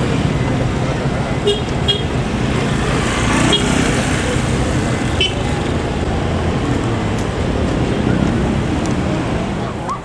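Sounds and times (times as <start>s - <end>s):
tyres on road: 0.0s - 10.0s
vehicle engines running: 0.0s - 10.0s.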